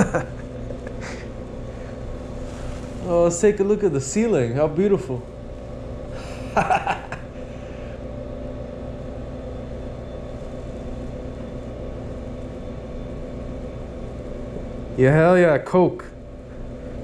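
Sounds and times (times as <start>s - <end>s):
indoor mechanical hum: 0.0s - 17.0s.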